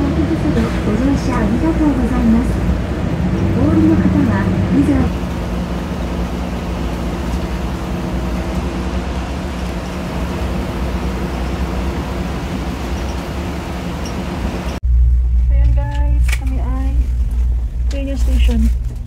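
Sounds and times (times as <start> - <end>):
bus engine running: 0.0 - 19.0
road noise: 0.0 - 19.0.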